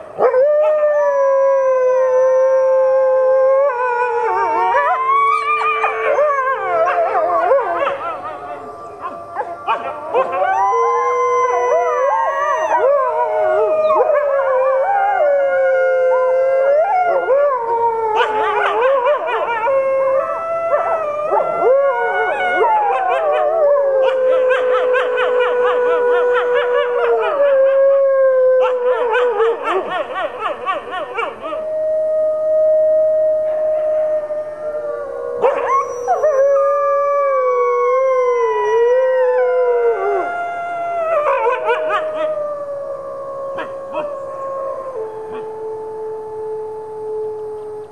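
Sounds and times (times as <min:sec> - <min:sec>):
wolves howling in chorus: 0:00.0 - 0:47.9.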